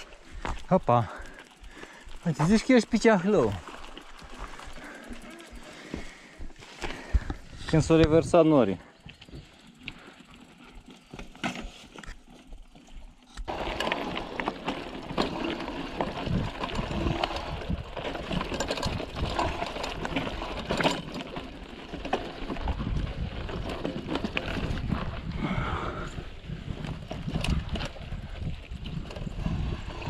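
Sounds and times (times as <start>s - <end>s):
bike frame and chain knocking: 0.0s - 8.3s, 9.0s - 25.7s
tyres crunching on gravel: 0.0s - 26.1s
mountain bike rattling on stony trail: 0.0s - 30.0s.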